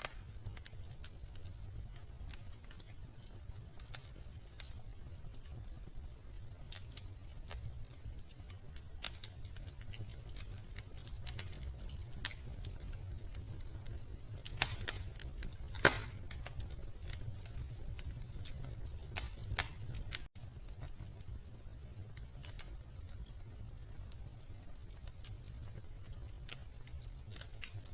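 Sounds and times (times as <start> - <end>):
fireplace wood fire crackling: 0.0 - 27.9
low rumble of fire: 0.0 - 27.9.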